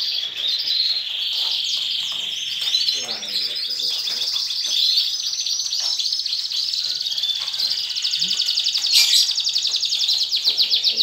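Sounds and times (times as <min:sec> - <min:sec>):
canaries singing and chirping: 0:00.0 - 0:11.0.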